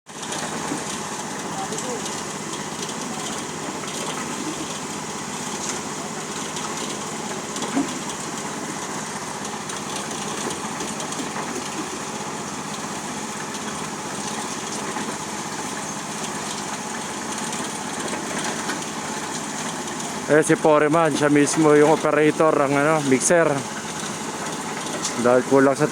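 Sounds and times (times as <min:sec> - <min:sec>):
concrete mixer engine running: 0:00.1 - 0:25.9.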